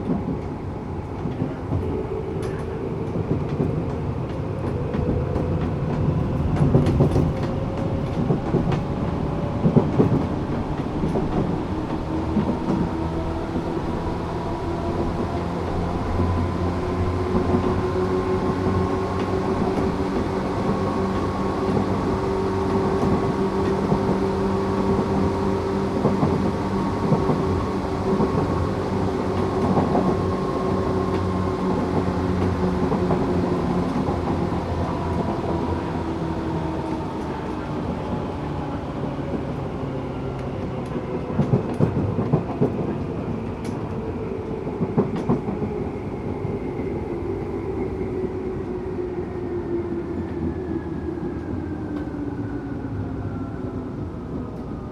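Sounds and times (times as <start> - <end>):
rail joint clicks: 0.0 - 48.8
wheels rumbling on rails: 0.0 - 54.9.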